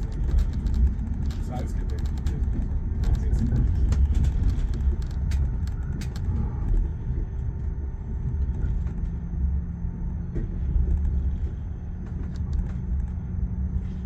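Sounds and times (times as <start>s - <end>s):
faint steady hum: 0.0s - 14.0s
train rumbling: 0.0s - 14.0s.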